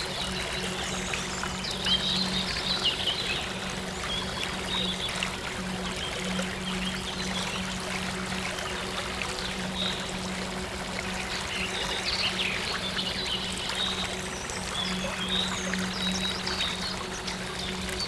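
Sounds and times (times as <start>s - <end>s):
flowing stream water: 0.0s - 18.0s.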